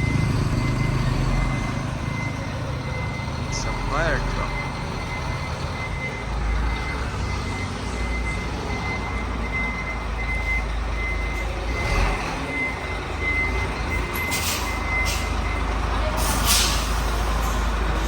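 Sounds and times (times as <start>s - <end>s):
reversing alarm beeping: 0.0s - 15.8s
fire truck engine running: 0.0s - 18.0s.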